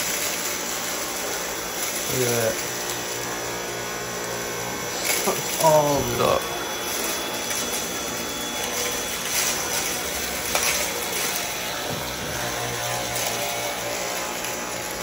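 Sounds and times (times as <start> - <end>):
grit crackling up vacuum wand: 0.0 - 15.0
stick vacuum running: 0.0 - 15.0.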